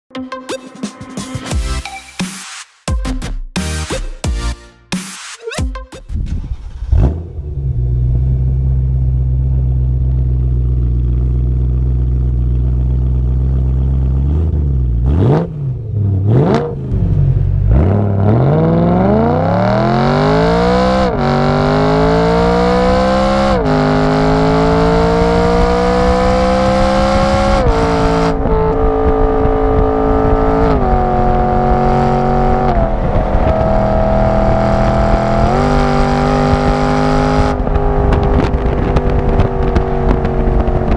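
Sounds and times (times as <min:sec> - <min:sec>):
car engine revving and accelerating: 0:06.6 - 0:40.9.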